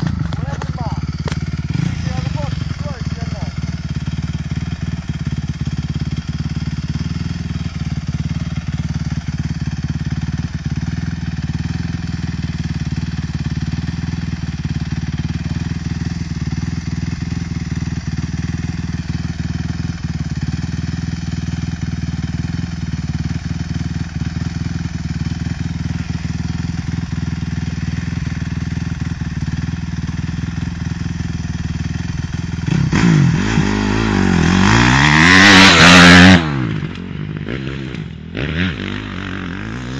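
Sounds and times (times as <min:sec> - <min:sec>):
motorcycle engine running and revving: 0:00.0 - 0:39.9.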